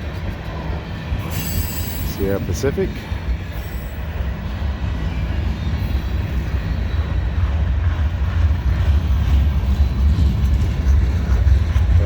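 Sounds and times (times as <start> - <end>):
freight train cars rolling: 0.0 - 12.0.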